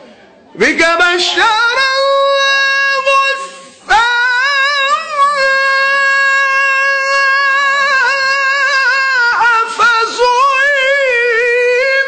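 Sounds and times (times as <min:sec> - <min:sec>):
man singing unaccompanied: 0:00.6 - 0:12.0.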